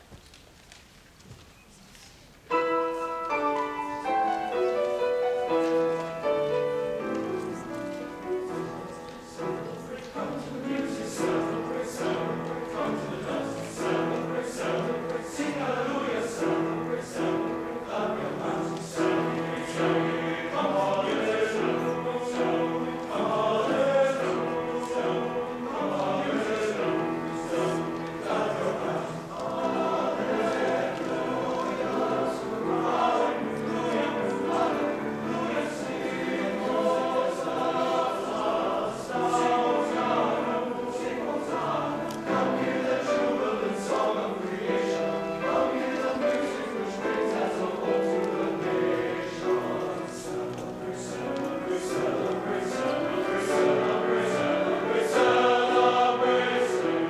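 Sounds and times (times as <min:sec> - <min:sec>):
piano accompaniment: 0:02.4 - 0:57.0
men's choir singing: 0:02.5 - 0:57.0.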